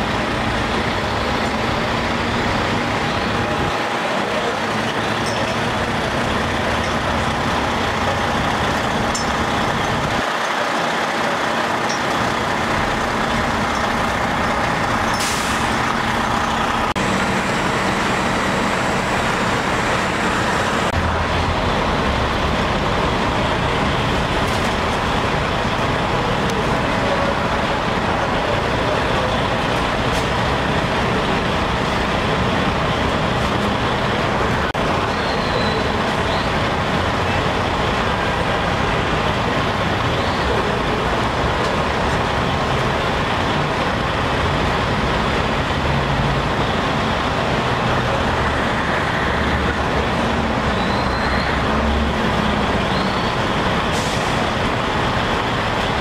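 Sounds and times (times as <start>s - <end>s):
city street traffic: 0.0s - 56.0s
diesel fire truck engines running: 0.0s - 56.0s.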